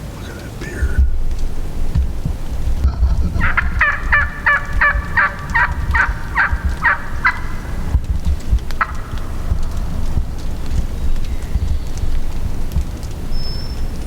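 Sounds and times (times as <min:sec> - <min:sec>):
wild turkey calling: 0:00.0 - 0:12.5
wind rumble: 0:00.0 - 0:14.0.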